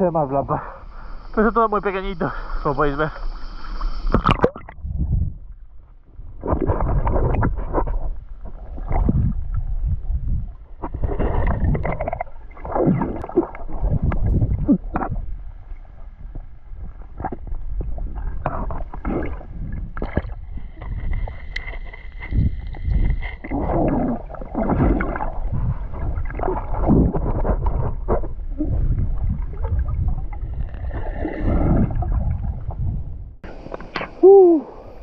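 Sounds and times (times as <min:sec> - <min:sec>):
underwater sloshing and bubbling: 0:00.0 - 0:35.0.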